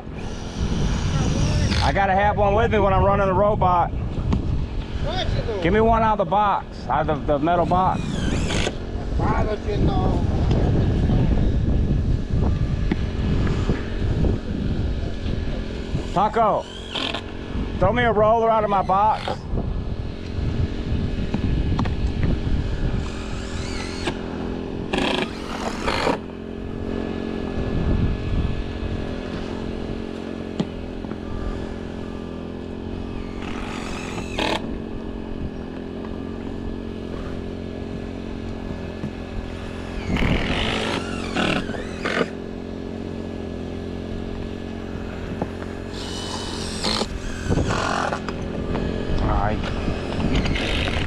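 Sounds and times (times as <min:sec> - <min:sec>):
roofing welder motor hum: 0:00.0 - 0:51.0.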